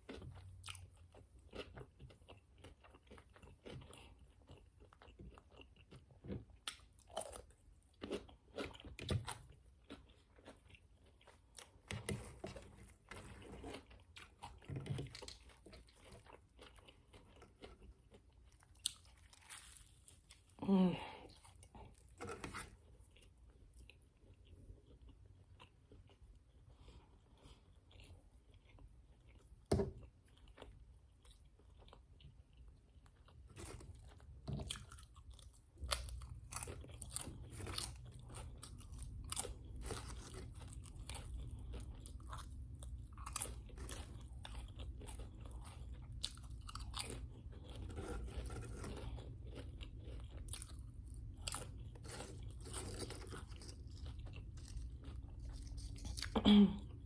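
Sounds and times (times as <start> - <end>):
crunchy food chewing: 0.0 - 20.6, 21.3 - 57.0.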